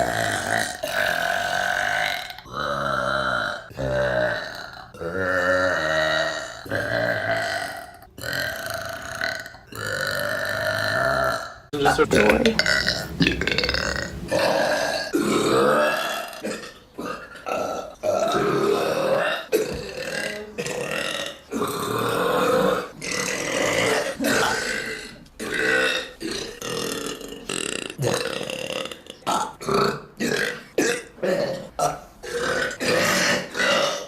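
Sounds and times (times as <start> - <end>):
woman burping: 0.0 - 34.0.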